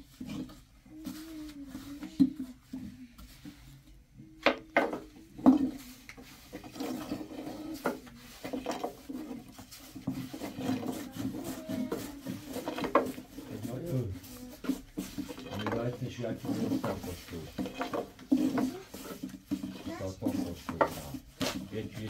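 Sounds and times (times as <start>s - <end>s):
wooden scraping: 0.0s - 3.8s, 4.4s - 22.0s.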